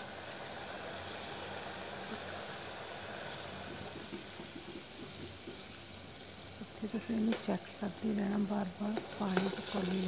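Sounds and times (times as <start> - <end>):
syrup boiling with bubbling hiss: 0.0 - 10.0.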